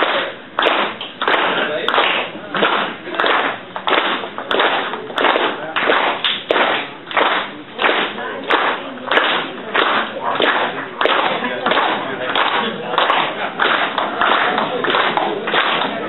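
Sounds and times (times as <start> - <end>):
sharp noisy beats: 0.0 - 16.0.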